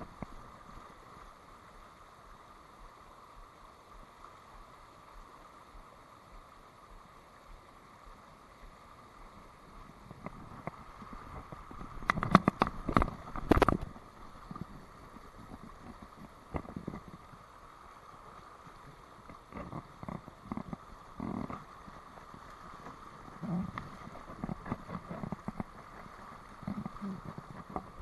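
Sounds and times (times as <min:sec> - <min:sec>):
shallow stream rushing: 0:00.0 - 0:28.0.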